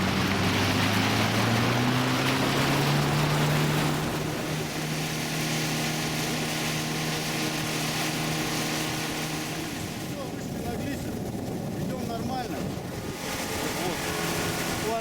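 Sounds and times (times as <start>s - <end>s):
motorboat engine running: 0.0s - 15.0s
rushing water and wind: 0.0s - 15.0s.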